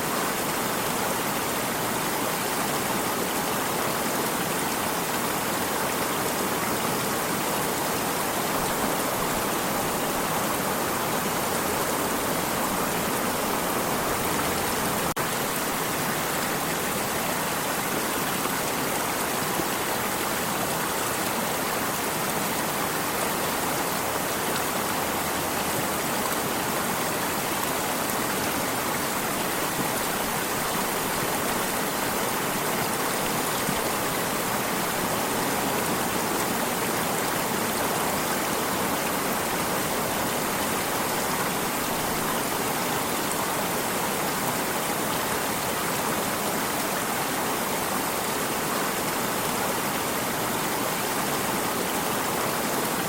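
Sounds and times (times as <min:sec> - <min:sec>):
stream of running water: 0:00.0 - 0:53.0.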